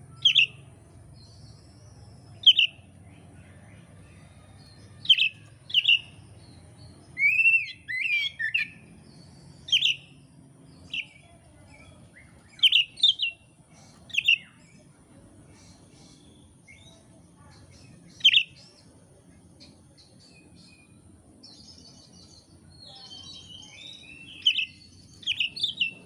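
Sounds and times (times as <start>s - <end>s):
bird singing whistled notes: 0.0s - 14.8s, 15.5s - 18.9s, 19.6s - 26.0s.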